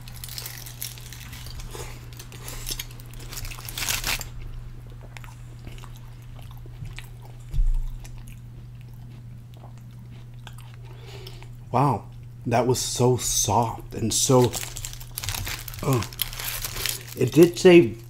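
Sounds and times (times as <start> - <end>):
crunchy chewing: 0.0 - 12.3, 14.4 - 17.4
steady low hum: 0.0 - 18.0.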